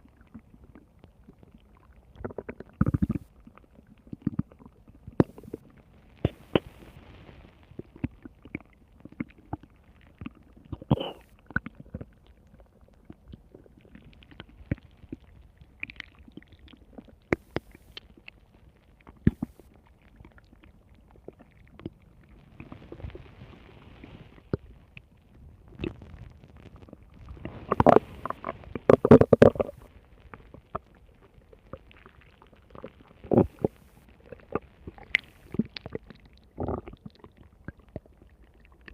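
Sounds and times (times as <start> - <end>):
stomach growling and gurgling: 0.0 - 38.9.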